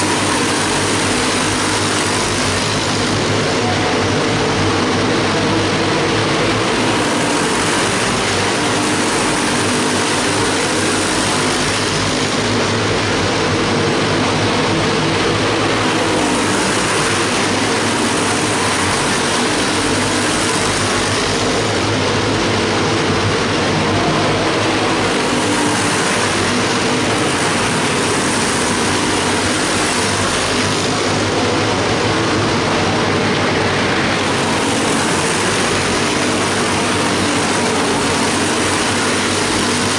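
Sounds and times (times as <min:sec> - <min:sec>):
small race car engines droning: 0:00.0 - 0:39.9.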